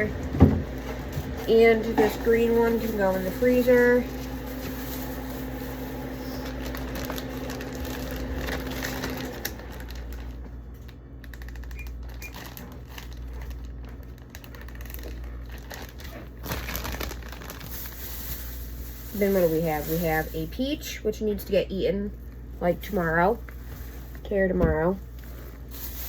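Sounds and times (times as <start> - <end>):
plastic bags crinkling: 0.0 - 26.0
steady low hum: 0.0 - 26.0.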